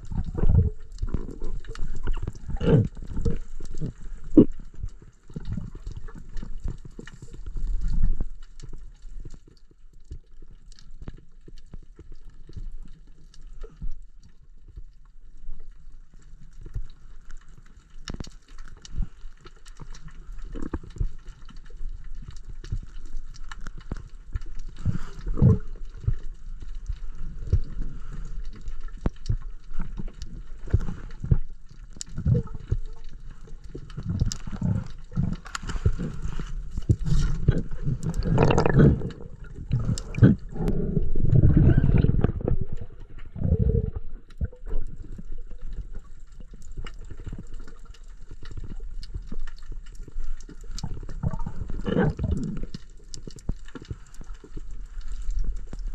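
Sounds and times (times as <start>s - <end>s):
small underwater clicks and knocks: 0.0s - 55.9s
underwater gurgling: 0.0s - 55.9s.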